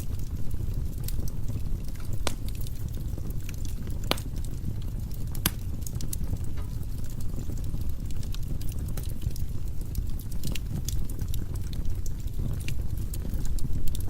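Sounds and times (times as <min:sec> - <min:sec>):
fire crackles and pops: 0:00.0 - 0:14.0
fire rumbling: 0:00.0 - 0:14.0.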